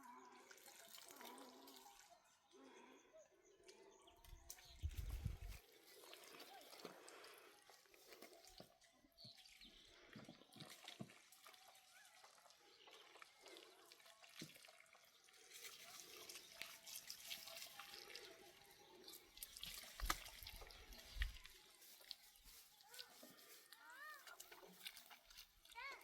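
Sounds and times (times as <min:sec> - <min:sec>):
water dripping and trickling: 0:00.0 - 0:02.6, 0:04.2 - 0:26.0.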